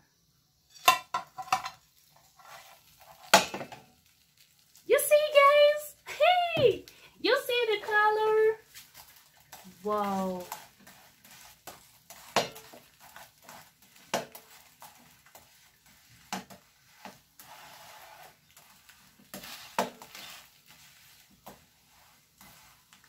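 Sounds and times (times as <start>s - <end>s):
faint frying sizzle: 0.0s - 23.0s
metal spatula scraping frying pan: 0.7s - 4.1s, 7.6s - 23.0s.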